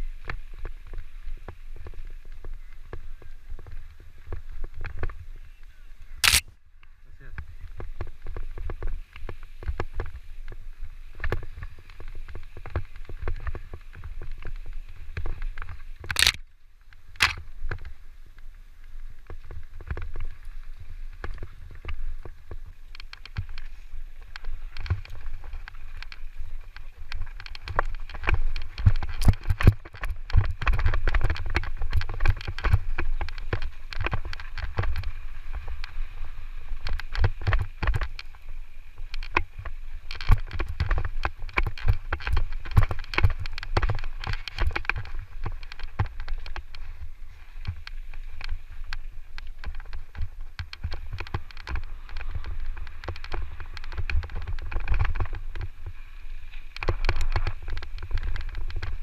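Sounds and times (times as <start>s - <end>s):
bike rattling over rough trail: 0.0s - 59.0s
wind rumble on microphone: 0.0s - 59.0s.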